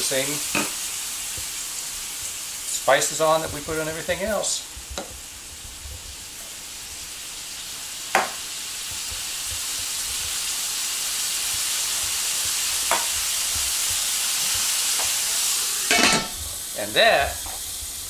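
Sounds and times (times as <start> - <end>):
meat sizzling in a wok: 0.0 - 18.0.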